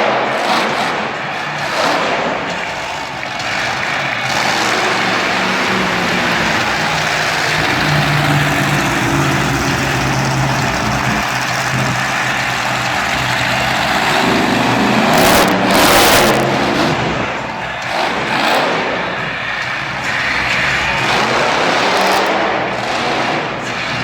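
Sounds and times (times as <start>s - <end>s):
rush of noise: 0.0s - 24.0s
truck engine revving: 0.0s - 24.0s.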